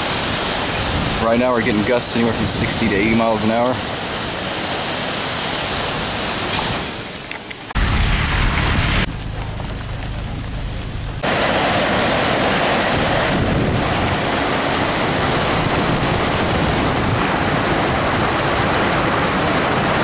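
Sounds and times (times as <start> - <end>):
rain: 0.0 - 20.0
strong storm wind gusts: 0.0 - 20.0
wind rumbling on microphone: 0.0 - 20.0.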